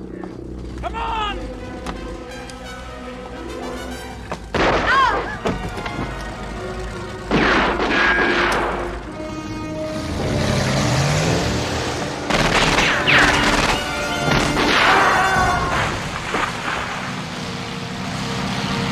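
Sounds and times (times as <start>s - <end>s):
music: 0.0s - 16.2s.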